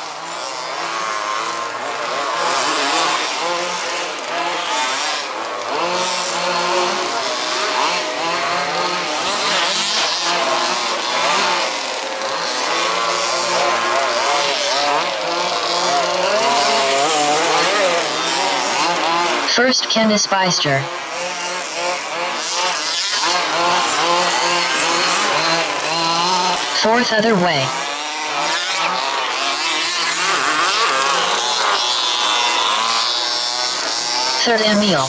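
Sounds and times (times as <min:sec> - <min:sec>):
rc buggy engines revving: 0:00.0 - 0:35.0.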